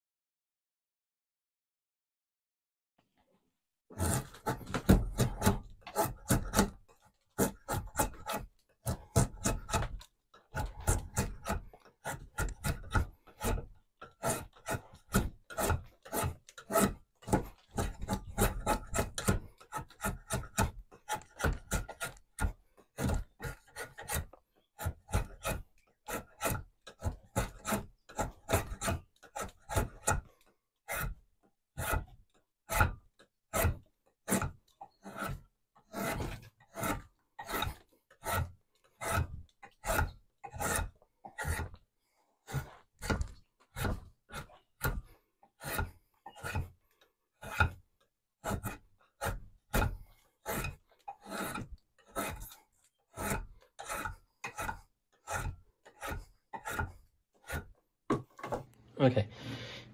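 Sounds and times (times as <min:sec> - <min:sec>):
blade shaving wood: 0:03.9 - 0:47.8, 0:48.4 - 0:57.8.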